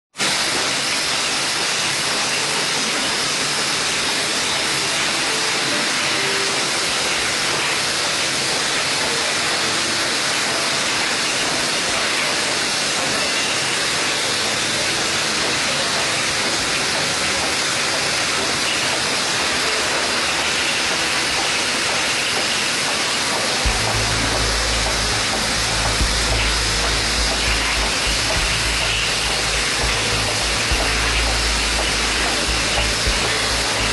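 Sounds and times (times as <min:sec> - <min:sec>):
steady hiss: 0:00.2 - 0:33.9.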